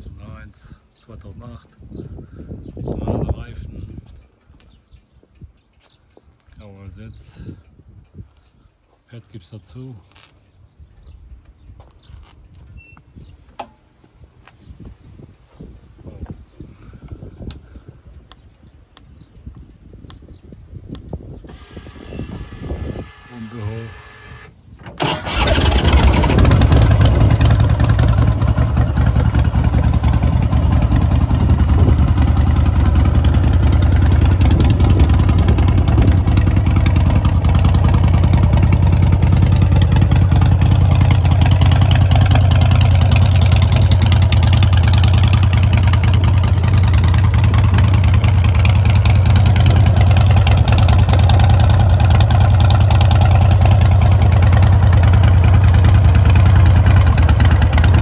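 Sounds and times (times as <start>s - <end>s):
motorcycle engine idling: 0.0s - 9.1s, 10.1s - 24.4s, 25.2s - 58.0s.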